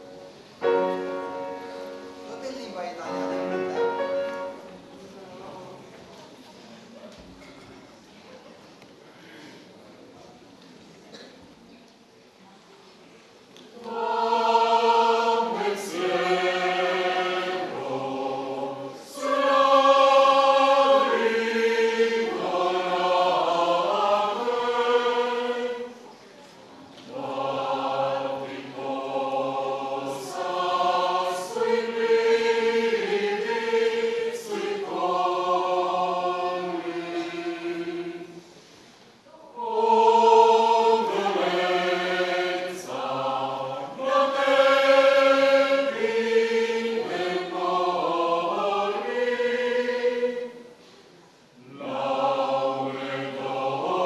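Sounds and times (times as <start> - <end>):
mixed choir singing unaccompanied: 0.0 - 5.9, 13.7 - 26.3, 26.9 - 54.0.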